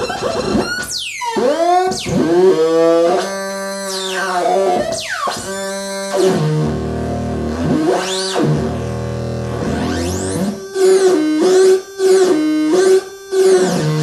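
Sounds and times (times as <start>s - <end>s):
buzzy synth tones: 0.0s - 14.0s.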